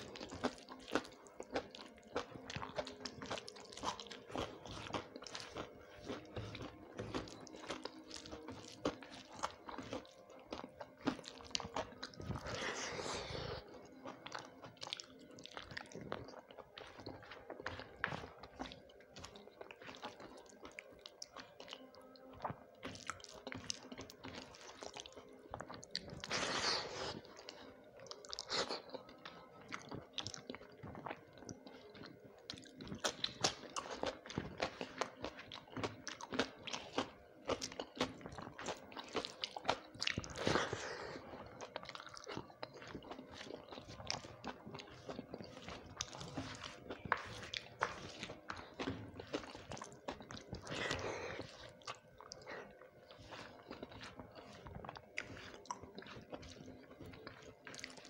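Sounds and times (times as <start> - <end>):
person chewing and biting: 0.0 - 58.0.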